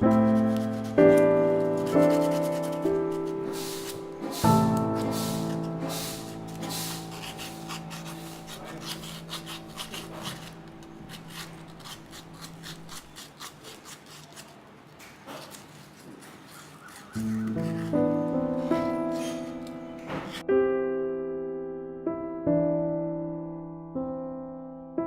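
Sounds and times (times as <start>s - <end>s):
piano music: 0.0s - 13.1s, 17.1s - 25.0s
rubbing and scraping strokes: 0.0s - 20.4s.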